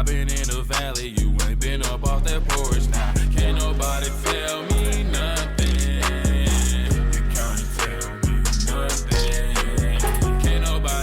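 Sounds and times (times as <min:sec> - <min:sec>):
hip-hop music with deep bass: 0:00.0 - 0:11.0.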